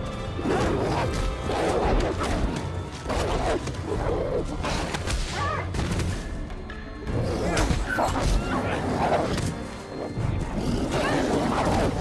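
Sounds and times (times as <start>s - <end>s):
film music score: 0.0s - 12.0s
wolves snarling and growling: 0.2s - 5.1s, 7.1s - 12.0s.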